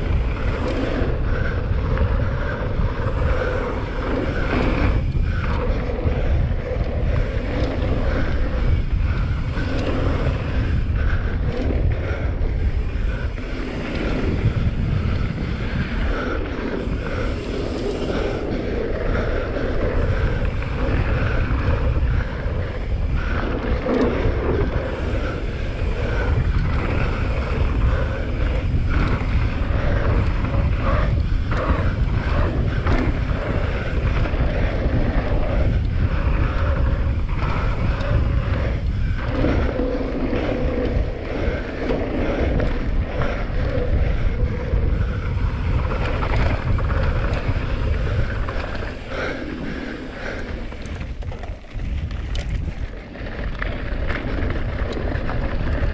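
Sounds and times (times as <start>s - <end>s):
bike clattering over bumps: 0.0s - 55.9s
tyres on dirt: 0.0s - 55.9s
wind rushing over microphone: 0.0s - 55.9s.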